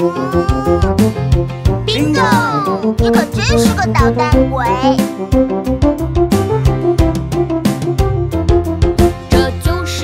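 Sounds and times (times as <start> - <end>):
playful cartoon music: 0.0 - 10.0.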